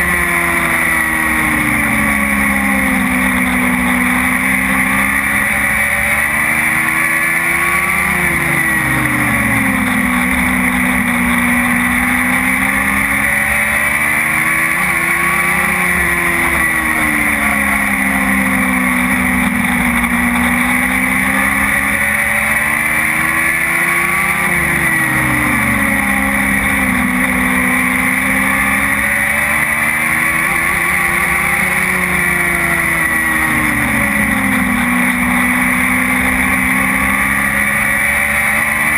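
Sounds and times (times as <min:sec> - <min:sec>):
race car engine revving: 0:00.0 - 0:38.9
steady high whine: 0:00.0 - 0:38.9.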